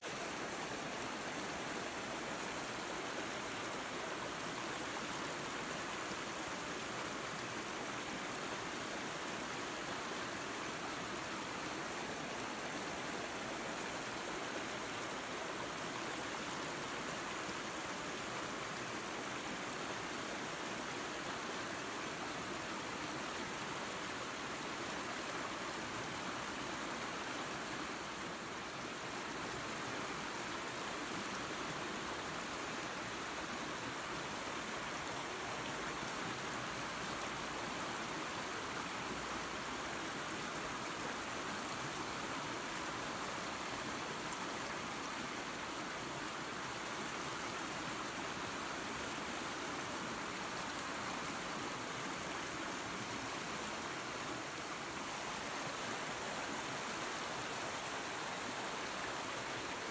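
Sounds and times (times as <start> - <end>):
waterfall and creek rushing: 0.0 - 59.9.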